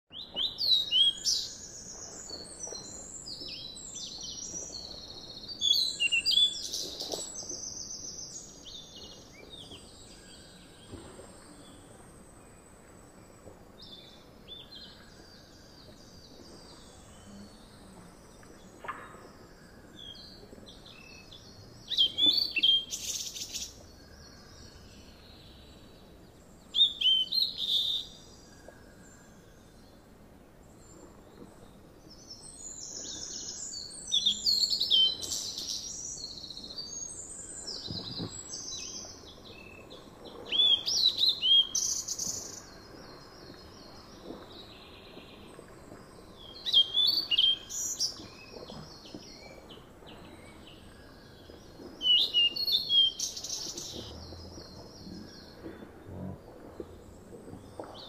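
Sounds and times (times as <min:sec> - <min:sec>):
faint steady background hiss: 0:00.1 - 0:58.0
songbirds chirping: 0:00.1 - 0:58.0.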